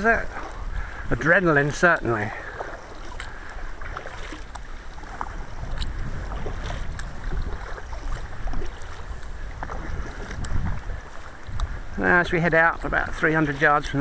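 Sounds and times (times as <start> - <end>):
paddle splashing in water: 0.0 - 14.0
wind on microphone: 0.0 - 14.0.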